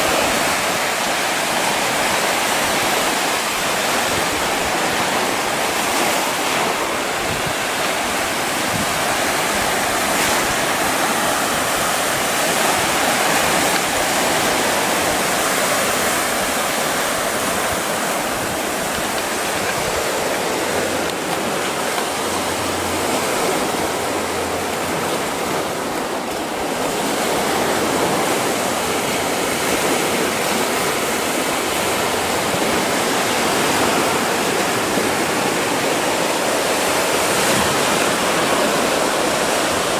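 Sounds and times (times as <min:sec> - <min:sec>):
sea waves breaking on rocks: 0:00.0 - 0:39.9.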